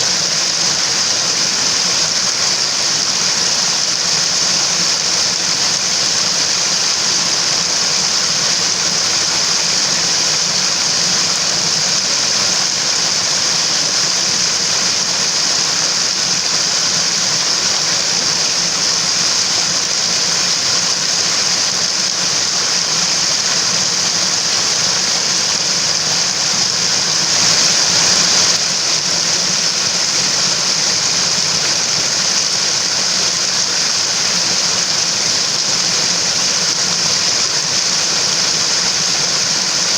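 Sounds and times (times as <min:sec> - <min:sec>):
mountain stream running: 0:00.0 - 0:39.9.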